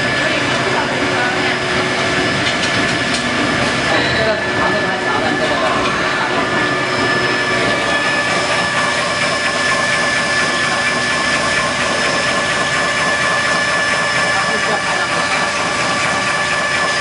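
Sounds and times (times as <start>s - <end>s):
finishing machine running with whine: 0.0s - 17.0s.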